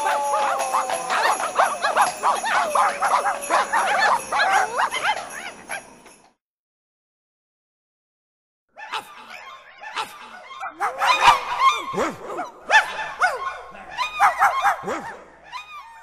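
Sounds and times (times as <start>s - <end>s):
dogs barking and yipping: 0.0s - 6.2s, 8.8s - 16.0s.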